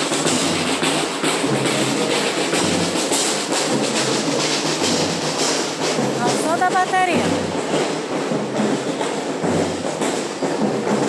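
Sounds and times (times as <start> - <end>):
drums playing rapid rhythm: 0.0 - 11.0.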